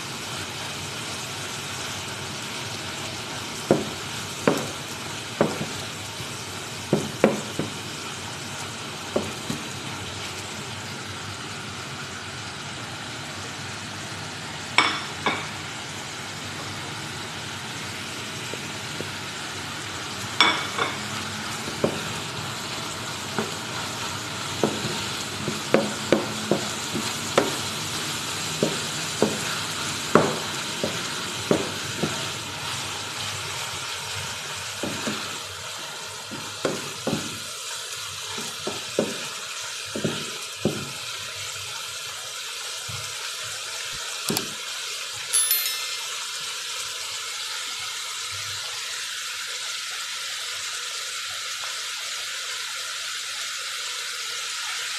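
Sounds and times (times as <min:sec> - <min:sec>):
vegetables and meat sizzling in pan: 0:00.0 - 0:54.9.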